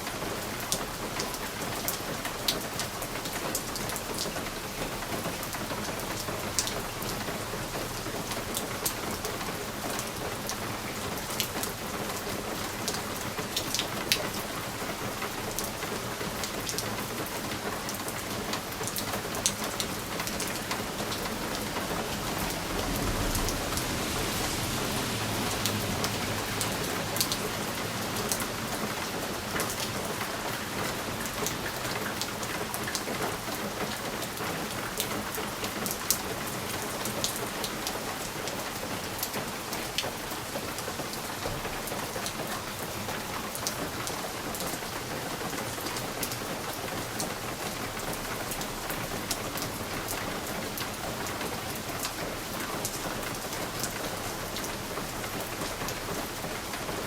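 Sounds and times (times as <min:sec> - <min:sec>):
rain on a window pane: 0:00.0 - 0:57.0.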